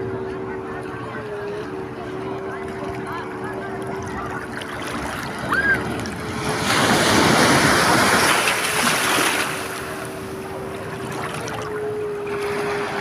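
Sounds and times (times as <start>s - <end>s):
waves breaking on a beach: 0.4s - 13.0s.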